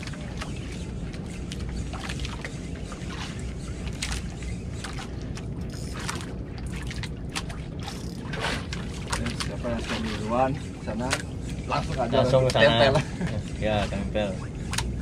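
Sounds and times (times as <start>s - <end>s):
steady low rumble: 0.0s - 15.0s
water lapping against boat hull: 0.0s - 15.0s.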